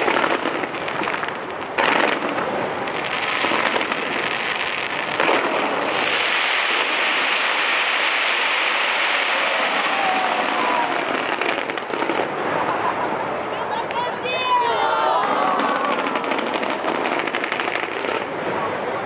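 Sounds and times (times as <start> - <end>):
loud firework bangs: 0.0 - 13.2, 15.3 - 18.7
fireworks crackling: 0.0 - 14.6, 15.3 - 19.0.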